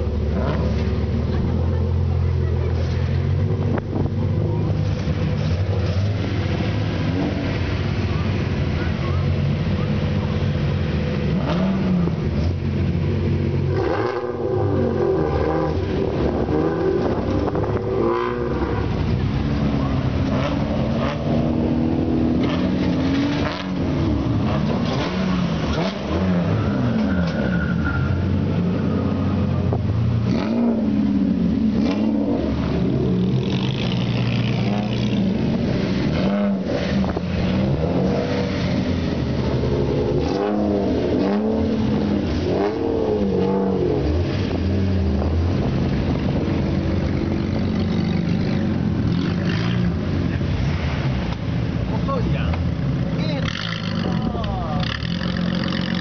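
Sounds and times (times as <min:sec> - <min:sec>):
cars driving past revving: 0:00.0 - 0:56.0.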